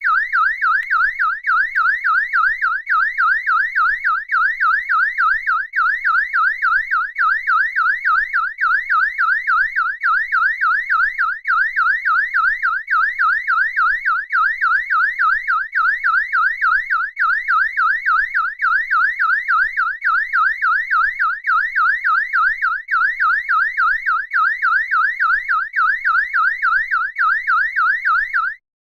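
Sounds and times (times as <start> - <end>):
car alarm siren warbling: 0.0 - 28.6.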